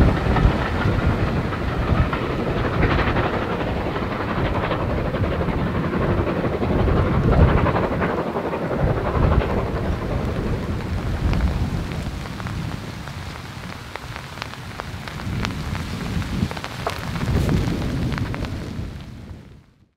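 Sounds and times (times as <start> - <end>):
heavy rain falling: 0.0 - 19.8
raindrops ticking nearby: 0.0 - 19.8
low rumble: 0.0 - 19.9.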